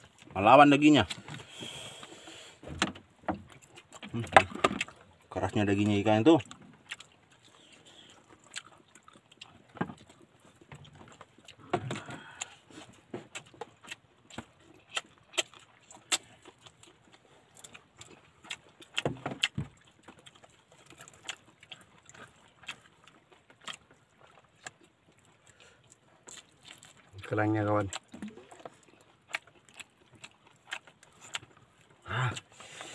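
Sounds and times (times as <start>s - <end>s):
person chewing: 0.0s - 32.9s.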